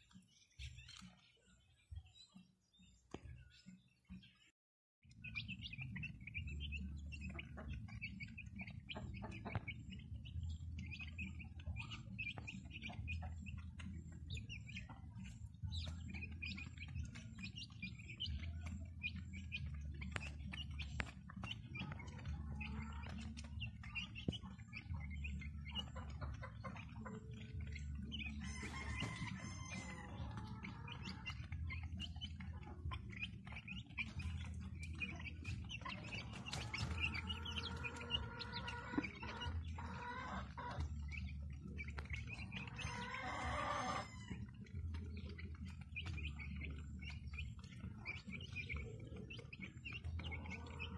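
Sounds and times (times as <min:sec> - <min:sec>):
chickens peeping and chirping: 0:00.0 - 0:04.5, 0:05.1 - 0:50.9
beaks tapping concrete floor: 0:00.0 - 0:50.9.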